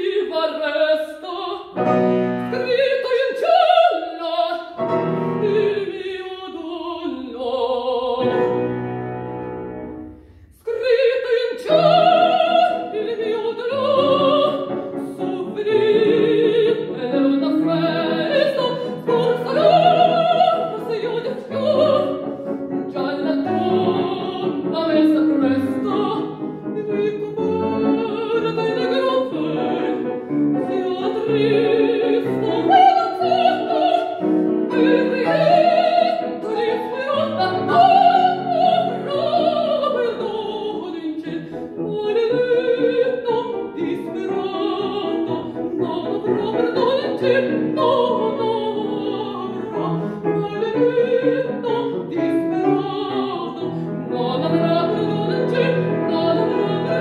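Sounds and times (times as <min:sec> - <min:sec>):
woman singing opera: 0:00.0 - 0:08.8, 0:10.5 - 0:57.0
grand piano: 0:00.0 - 0:57.0.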